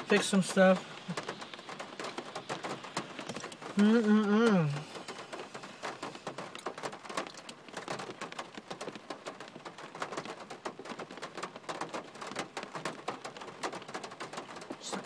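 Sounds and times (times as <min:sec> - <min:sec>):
rain pattering on car roof: 0:00.0 - 0:15.0.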